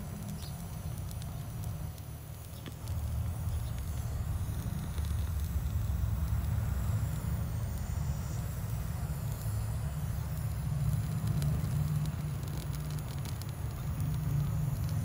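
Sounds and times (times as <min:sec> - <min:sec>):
torch flame rumbling: 0:00.0 - 0:15.0.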